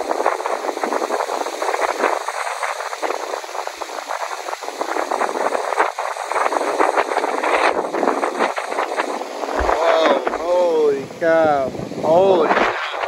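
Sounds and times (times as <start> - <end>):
wind rushing through trees: 0.0 - 13.0.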